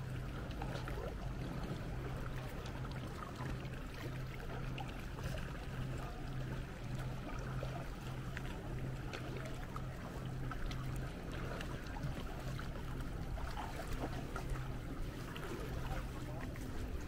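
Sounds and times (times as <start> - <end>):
canoe paddles dipping in water: 0.0 - 17.0.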